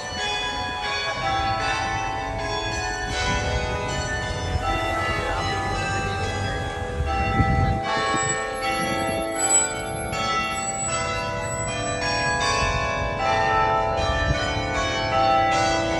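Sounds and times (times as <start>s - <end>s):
tower bells ringing: 0.0s - 15.9s.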